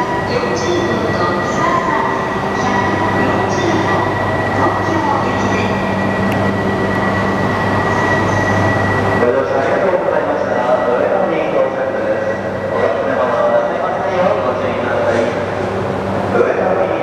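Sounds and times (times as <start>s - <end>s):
steady high tone: 0.0s - 15.1s
train rumbling: 0.0s - 17.0s.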